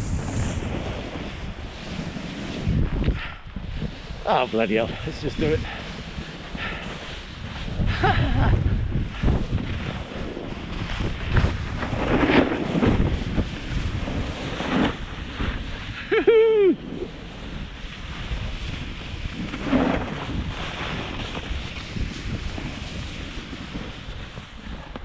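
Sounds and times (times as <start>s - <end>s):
skis scraping over snow: 0.0s - 25.0s
wind buffeting microphone: 0.0s - 25.0s.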